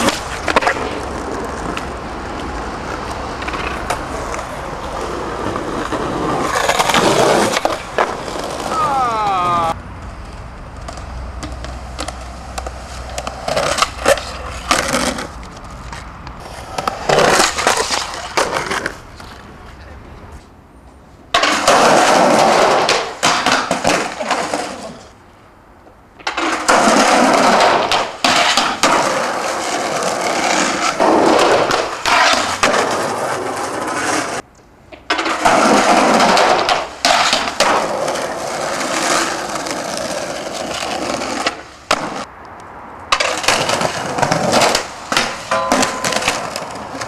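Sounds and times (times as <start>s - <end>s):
skateboard clacks: 0.0s - 19.8s, 21.3s - 25.1s, 25.8s - 42.3s, 43.1s - 47.0s
skateboard wheels rolling on concrete: 0.0s - 47.0s.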